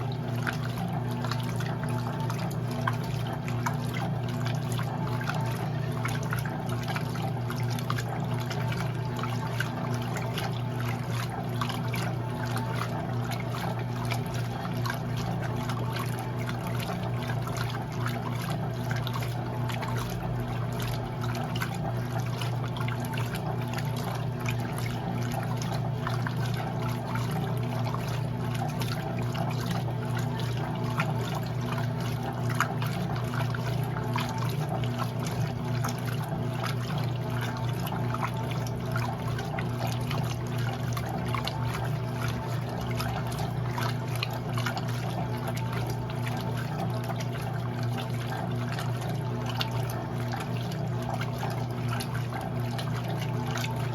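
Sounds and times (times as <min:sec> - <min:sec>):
washing machine low hum: 0:00.0 - 0:53.9
water pouring and trickling: 0:00.0 - 0:53.9.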